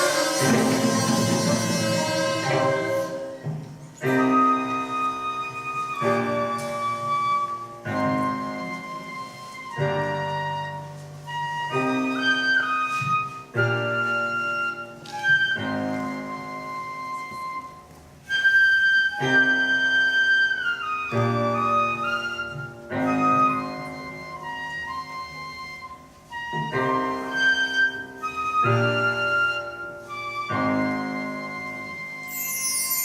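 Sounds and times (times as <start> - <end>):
flute-like wind melody: 0.0 - 33.0
traditional music ensemble: 0.0 - 33.0.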